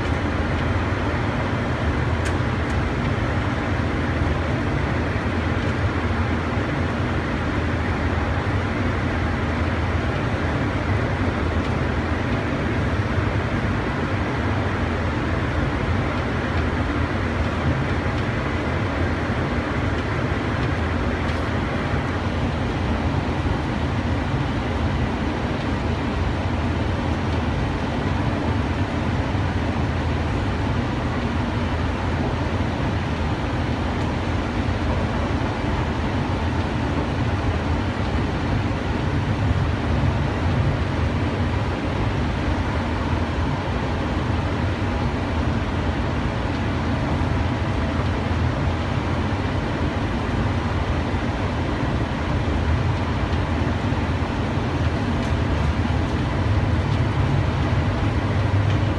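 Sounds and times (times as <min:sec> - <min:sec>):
people-mover car low rumble: 0:00.0 - 0:58.9.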